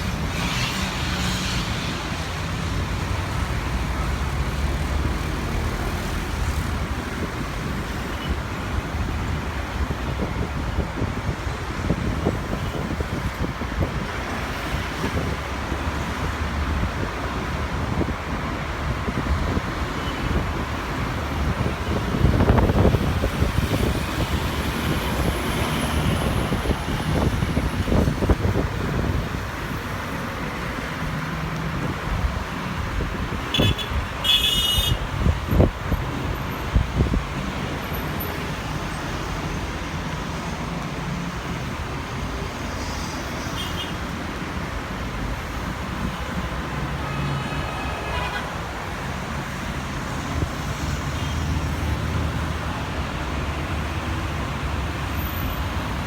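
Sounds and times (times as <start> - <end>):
rumble of engines and traffic: 0.0 - 56.0.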